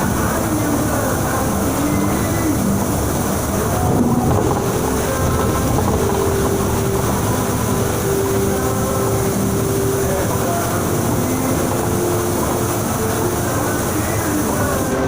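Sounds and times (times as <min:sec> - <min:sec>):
bus engine and road noise: 0:00.0 - 0:15.0
heavy rain: 0:00.0 - 0:15.0
steady whine: 0:00.0 - 0:15.0.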